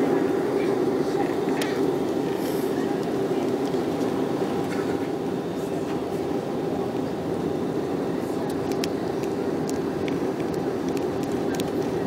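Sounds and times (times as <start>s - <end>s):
jet airliner cabin noise: 0.0s - 12.0s.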